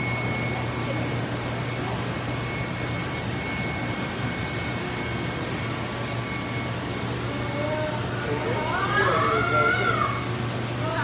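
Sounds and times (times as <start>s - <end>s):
faint high whine: 0.0s - 11.0s
machinery hum and hiss: 0.0s - 11.0s.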